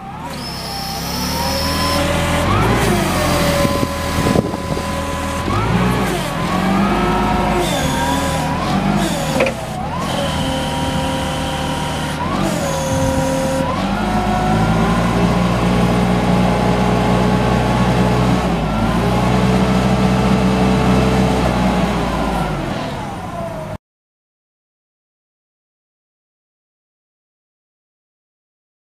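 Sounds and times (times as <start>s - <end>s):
forklift engine running: 0.0s - 23.8s.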